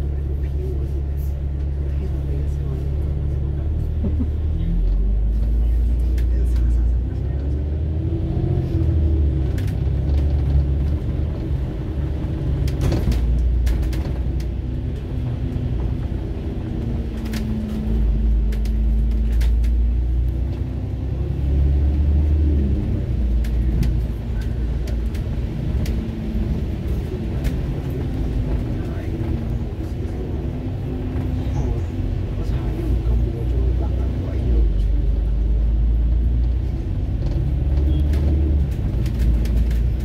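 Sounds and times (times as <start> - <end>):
bus body rattles: 0.0 - 40.0
bus engine rumble: 0.0 - 40.0.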